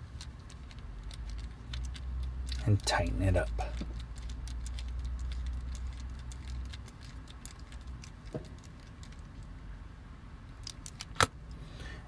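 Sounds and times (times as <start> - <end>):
handling plastic toy: 0.0 - 9.5, 10.6 - 11.3.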